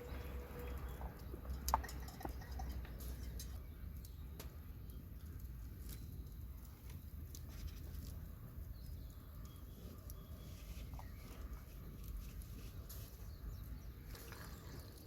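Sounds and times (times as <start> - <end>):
campfire crackling: 0.0 - 15.0
low steady rumble: 0.0 - 15.0.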